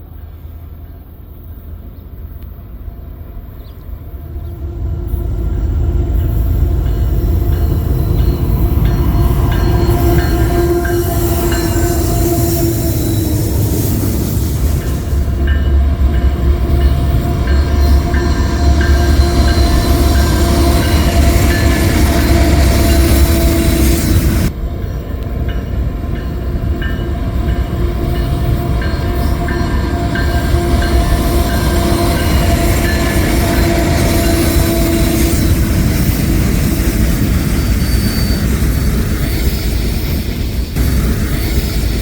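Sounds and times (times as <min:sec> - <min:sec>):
freight train rumbling: 0:00.0 - 0:42.0
steady train tone: 0:00.0 - 0:42.0.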